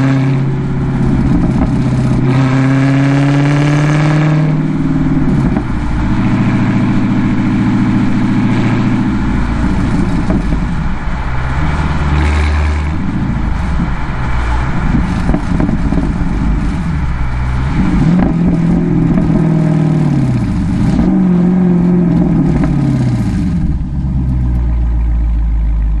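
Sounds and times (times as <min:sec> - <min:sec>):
vee eight engine running: 0:00.0 - 0:26.0.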